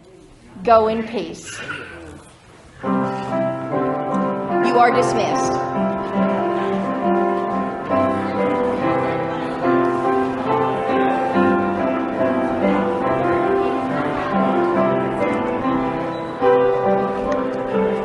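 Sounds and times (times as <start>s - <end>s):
piano music: 2.8s - 18.0s.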